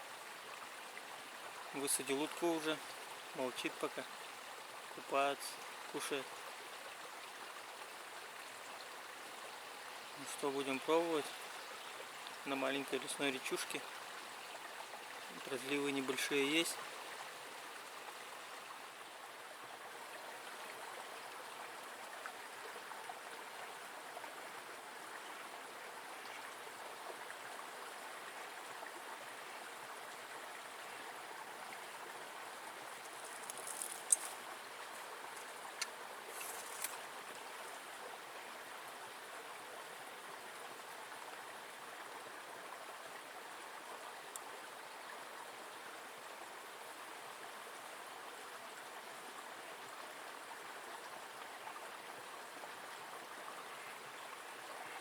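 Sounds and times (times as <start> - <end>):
river water rushing: 0.0 - 46.7.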